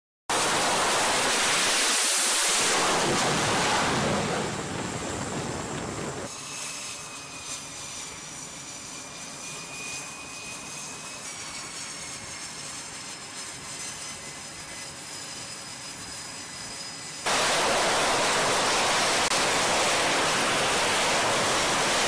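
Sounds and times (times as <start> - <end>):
jet engines roaring: 0.3 - 22.0
jet engines running with high whine: 0.3 - 22.0.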